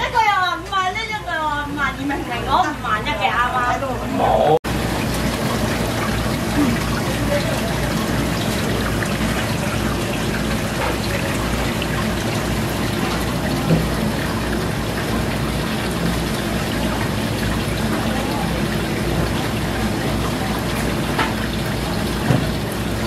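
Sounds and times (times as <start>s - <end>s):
water bubbling and trickling: 4.2s - 23.0s.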